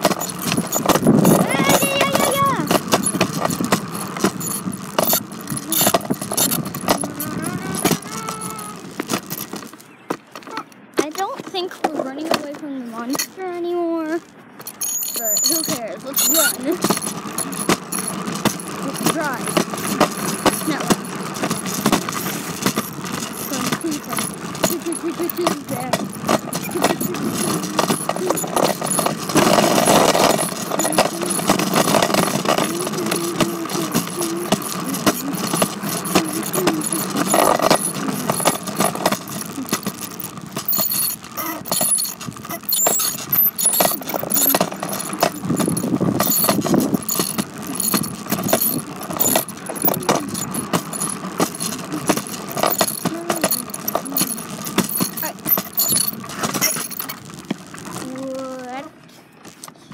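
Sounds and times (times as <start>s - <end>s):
bicycle rattling and clicking: 0.0s - 59.9s.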